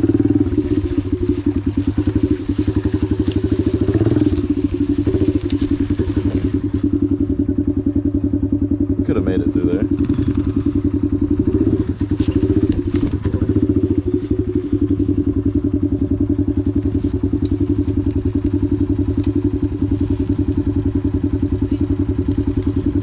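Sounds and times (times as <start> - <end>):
dirt bike engine idling: 0.0 - 23.0.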